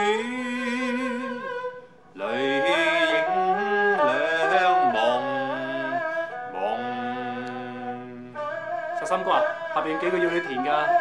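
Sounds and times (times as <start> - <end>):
person singing long wavering notes: 0.0 - 11.0.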